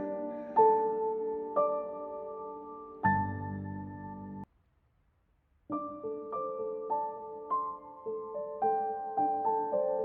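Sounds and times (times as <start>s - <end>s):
soft piano music: 0.0s - 4.5s, 5.7s - 10.0s.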